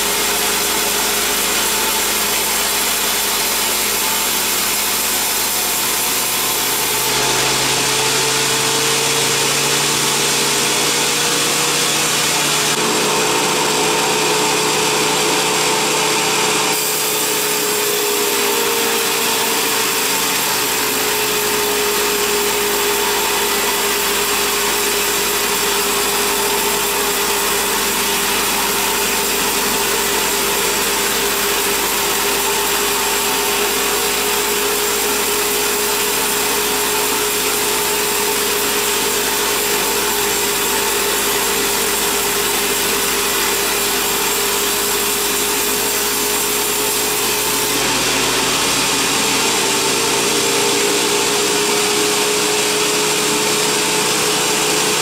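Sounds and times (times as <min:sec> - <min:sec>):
band sawmill cutting log: 0:00.0 - 0:55.0.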